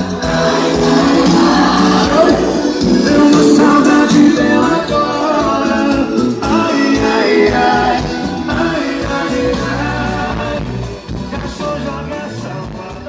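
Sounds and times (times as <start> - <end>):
song with singing and heavy bass: 0.0 - 13.0.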